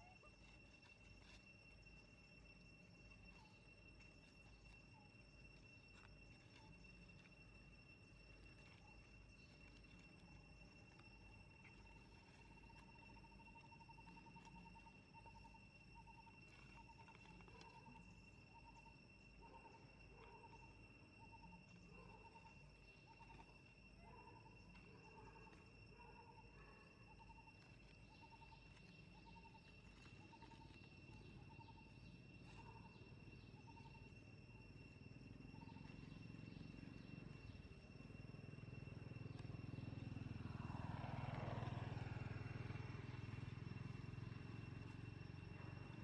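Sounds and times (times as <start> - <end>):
insect drone: 0.0 - 46.0
short insect chirp: 0.0 - 46.0.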